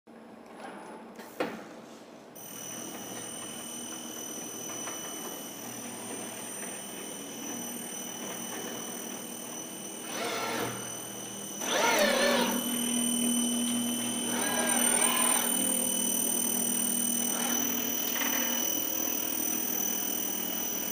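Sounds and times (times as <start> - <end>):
high machinery whine: 2.4 - 20.9.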